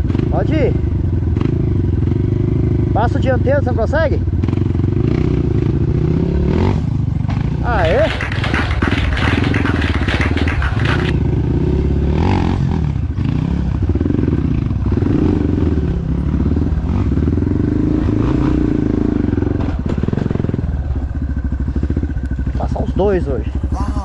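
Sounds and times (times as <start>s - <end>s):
dirt bike engine revving: 4.4s - 24.0s.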